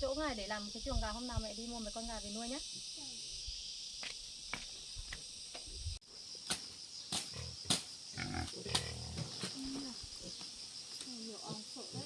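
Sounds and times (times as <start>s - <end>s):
high insect trill: 0.0s - 12.0s.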